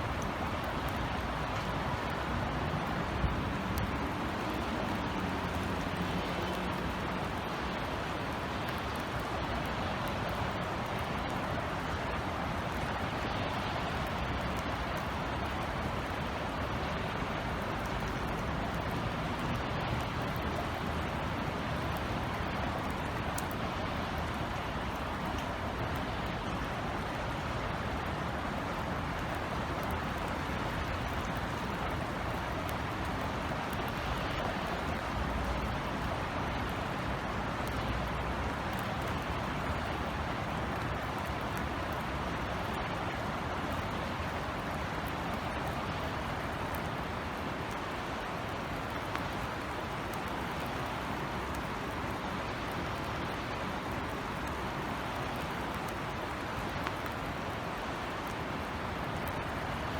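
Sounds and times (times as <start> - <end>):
rain falling on outdoor surfaces: 0.0 - 59.9.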